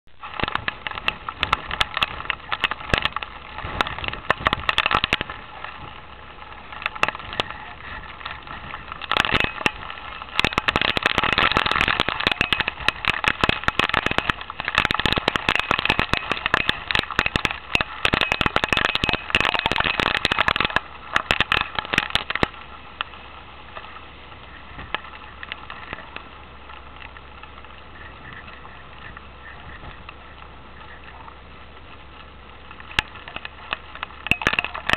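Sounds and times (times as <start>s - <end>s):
hailstones crackling: 0.1s - 34.9s
steady hiss: 0.2s - 34.9s.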